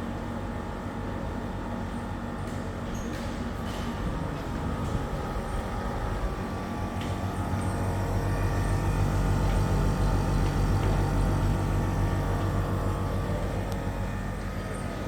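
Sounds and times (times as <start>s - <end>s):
compressor hum: 0.0s - 15.0s
condenser fan rushing: 0.0s - 15.0s.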